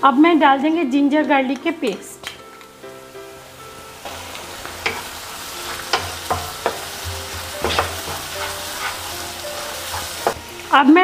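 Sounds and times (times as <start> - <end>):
onion sizzling in hot oil: 0.0 - 11.0.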